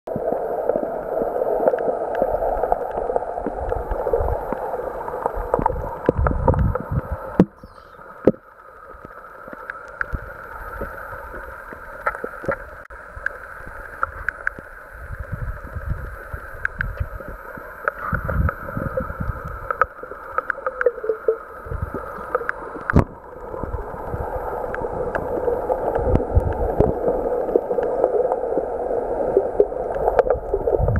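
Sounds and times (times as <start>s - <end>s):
muffled underwater rush: 0.1s - 30.9s.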